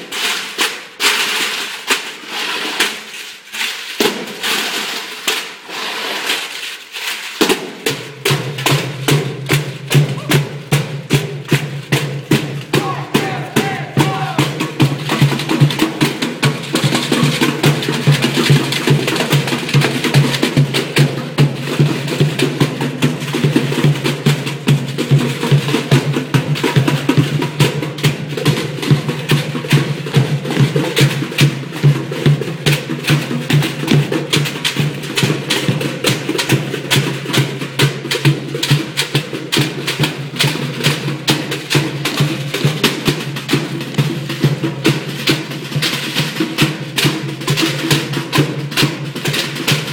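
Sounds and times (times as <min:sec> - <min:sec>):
drumming on plastic buckets: 0:00.0 - 0:49.9.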